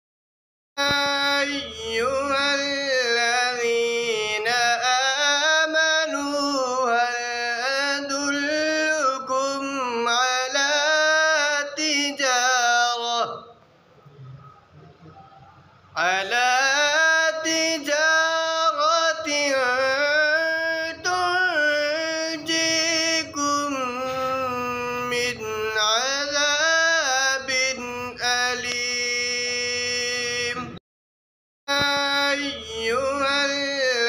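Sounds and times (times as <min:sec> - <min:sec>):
man chanting melodic recitation: 0:00.8 - 0:13.6, 0:14.3 - 0:30.8, 0:31.7 - 0:34.0.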